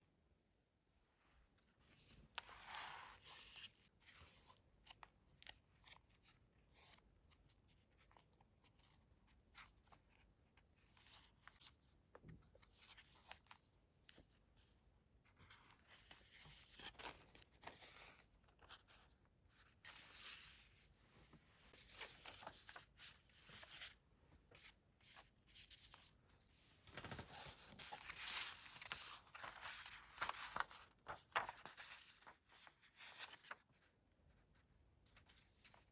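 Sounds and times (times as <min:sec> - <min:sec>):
paper rustling: 0:01.8 - 0:14.4, 0:15.3 - 0:35.9.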